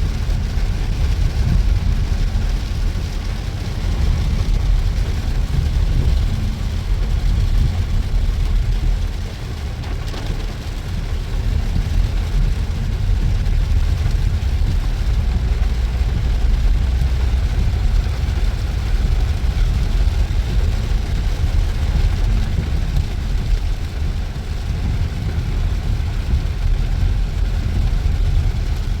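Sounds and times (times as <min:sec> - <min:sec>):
engine low rumble: 0:00.0 - 0:29.0
rain hiss: 0:00.0 - 0:29.0.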